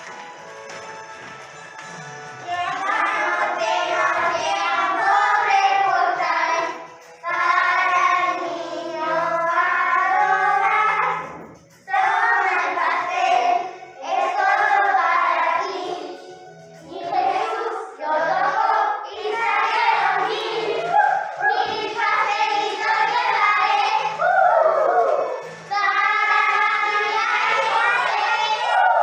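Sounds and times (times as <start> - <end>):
backing music: 0.0 - 29.0
children singing: 2.2 - 29.0.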